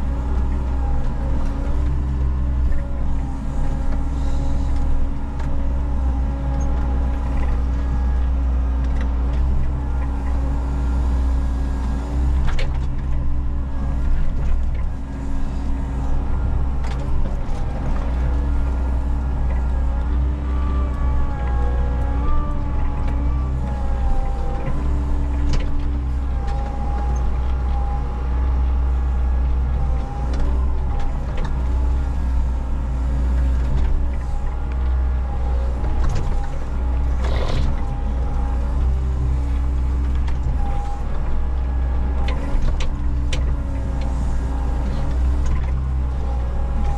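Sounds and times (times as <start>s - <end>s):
excavator engine hum: 0.0s - 46.9s.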